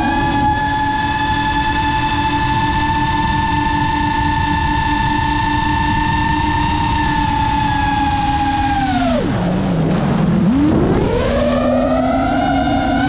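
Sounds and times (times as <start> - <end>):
drone propellers whining: 0.0 - 13.0
wind rush on microphone: 0.0 - 13.0.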